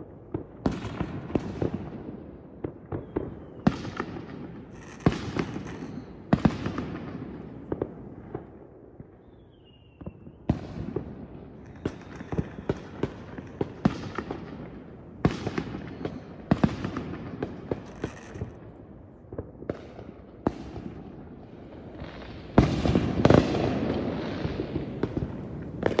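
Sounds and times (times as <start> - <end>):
fireworks bangs: 0.3 - 26.0.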